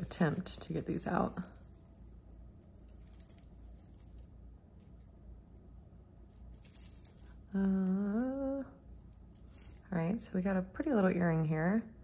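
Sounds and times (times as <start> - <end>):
metal jewelry clinking: 0.0 - 10.0.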